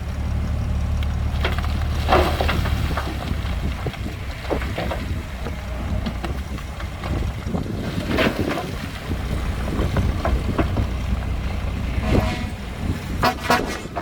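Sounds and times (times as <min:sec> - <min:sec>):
diesel machinery low rumble: 0:00.0 - 0:14.0
metal clanks and rattles: 0:00.9 - 0:14.0.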